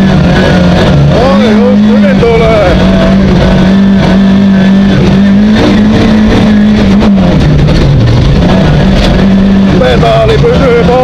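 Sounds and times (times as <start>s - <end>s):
car engine at high revs: 0.0s - 11.0s
road noise inside car: 0.0s - 11.0s.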